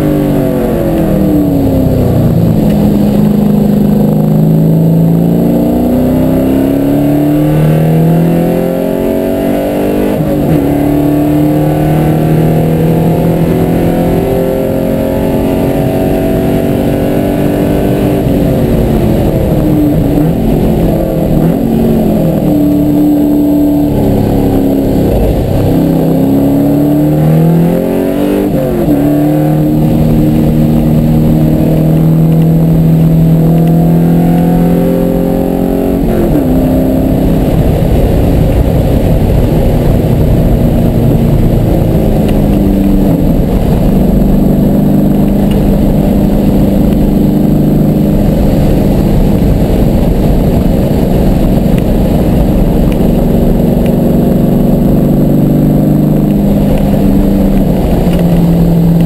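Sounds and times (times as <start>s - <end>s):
car engine revving at speed: 0.0s - 59.0s.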